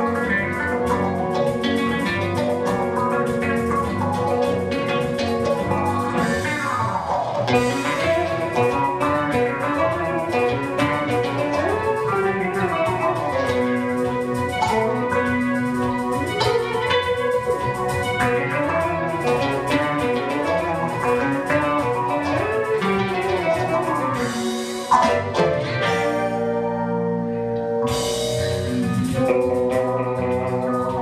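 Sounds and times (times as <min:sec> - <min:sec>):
drums: 0:00.0 - 0:31.0
plucked-string melody: 0:00.0 - 0:31.0.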